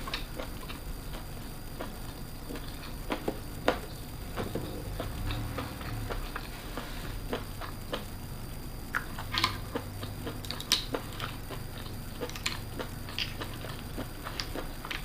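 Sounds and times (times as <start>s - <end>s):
chewing with wet mouth smacks: 0.0s - 8.1s, 8.9s - 15.0s.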